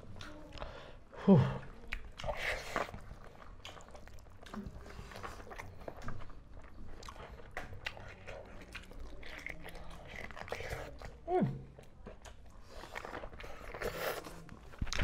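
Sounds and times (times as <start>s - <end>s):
people chewing and smacking: 0.0s - 15.0s.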